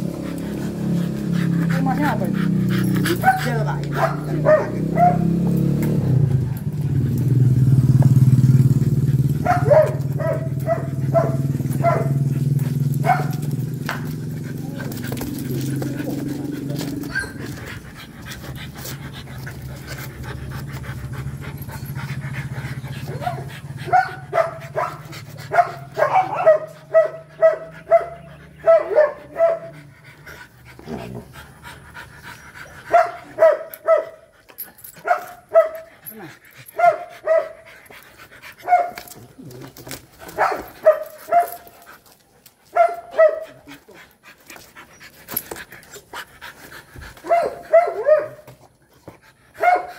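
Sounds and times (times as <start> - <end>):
dog panting whines: 0.0 - 5.0, 8.8 - 49.9.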